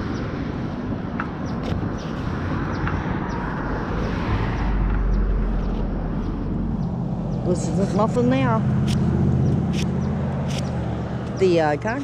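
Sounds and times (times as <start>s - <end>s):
road traffic passing: 0.0s - 12.0s
deep rumble: 1.0s - 11.3s.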